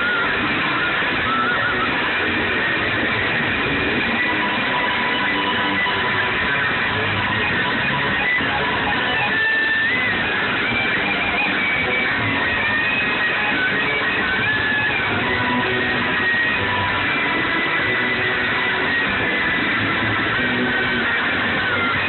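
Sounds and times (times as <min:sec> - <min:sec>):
strummed electric guitar rock music: 0:00.0 - 0:22.0.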